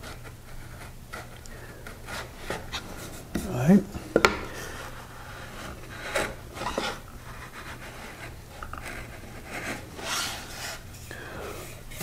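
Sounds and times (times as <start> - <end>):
handling noises: 0.0 - 12.0
plane scraping wood: 0.0 - 12.0.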